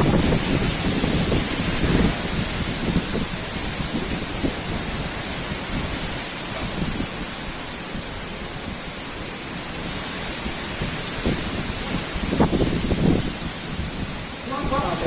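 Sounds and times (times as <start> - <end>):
rain hissing: 0.0 - 15.0
strong wind blowing: 0.0 - 15.0.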